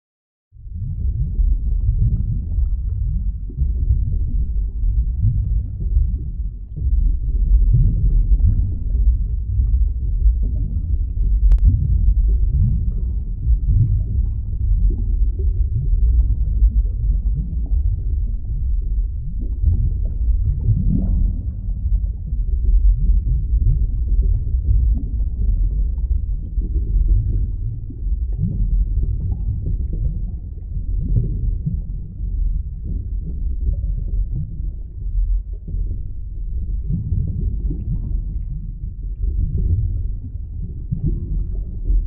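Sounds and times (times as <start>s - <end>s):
muffled underwater rumble: 0.5s - 42.0s.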